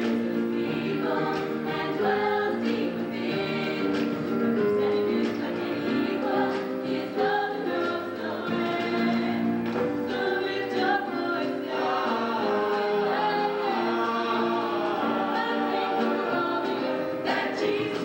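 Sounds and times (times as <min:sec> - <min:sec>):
mixed-voice choir singing: 0:00.0 - 0:18.0.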